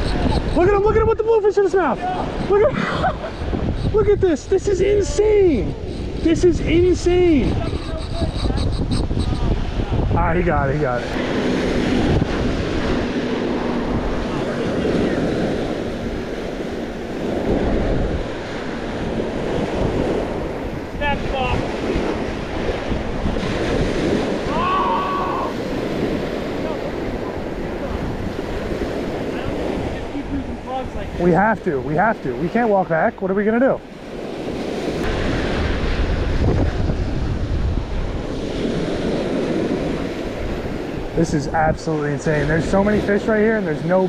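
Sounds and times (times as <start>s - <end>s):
surf waves breaking on sand: 0.0s - 44.0s
wind buffeting microphone: 0.0s - 44.0s.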